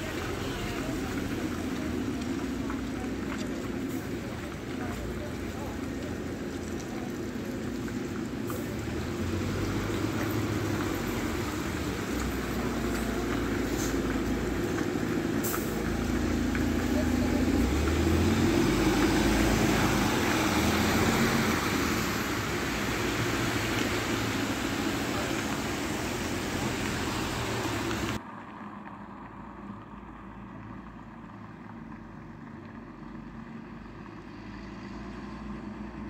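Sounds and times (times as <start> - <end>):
bus engine rumble: 0.0 - 36.0
car passing on wet street: 0.0 - 36.0.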